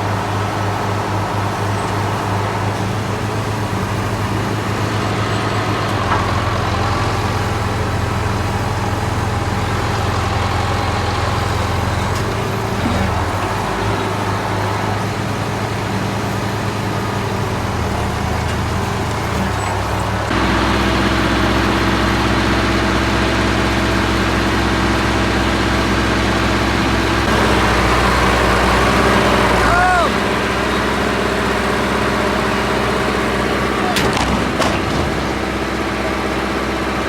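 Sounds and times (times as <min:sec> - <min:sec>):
large engine idling: 0:00.0 - 0:37.0.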